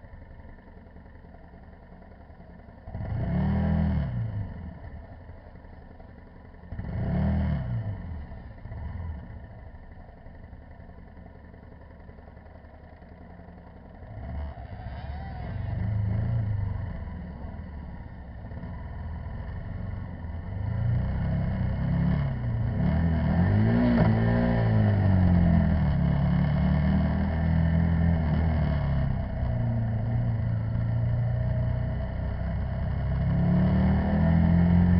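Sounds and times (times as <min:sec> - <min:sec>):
motorcycle engine revving: 0:01.0 - 0:34.9.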